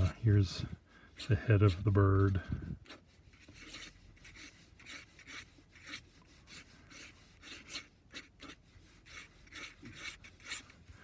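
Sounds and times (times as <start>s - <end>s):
pen nib scratching on paper: 1.1s - 11.0s.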